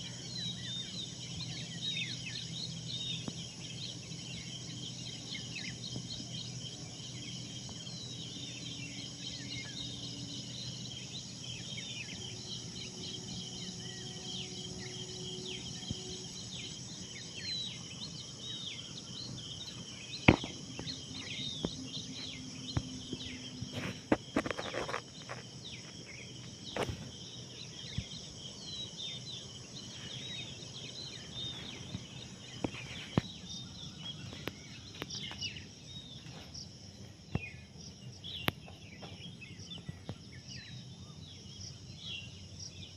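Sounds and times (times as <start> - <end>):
outdoor background hum: 0.0 - 42.9
small birds chirping: 0.0 - 42.9.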